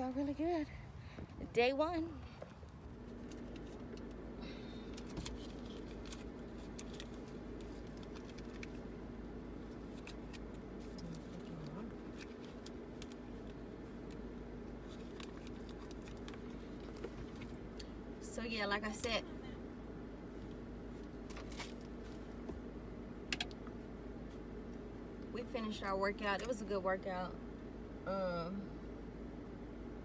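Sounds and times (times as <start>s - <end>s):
car cabin hum: 0.0s - 30.0s.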